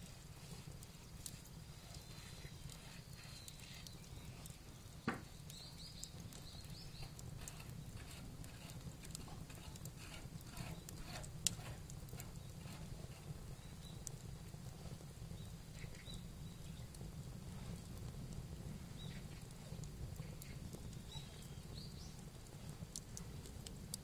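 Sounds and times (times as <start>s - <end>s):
sharp cracks of fire: 0.0s - 24.0s
wood fire crackling: 0.0s - 24.0s.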